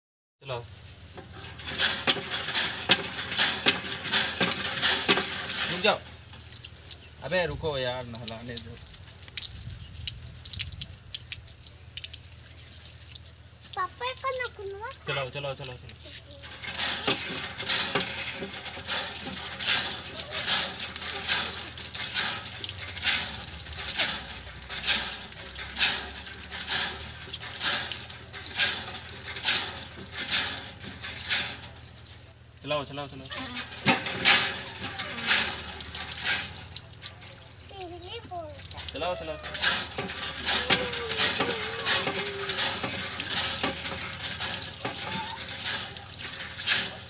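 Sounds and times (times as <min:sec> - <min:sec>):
water gushing from a pump spout: 0:00.4 - 0:47.0
water splashing on concrete: 0:00.4 - 0:47.0
pump handle strokes: 0:01.0 - 0:09.3, 0:11.2 - 0:47.0.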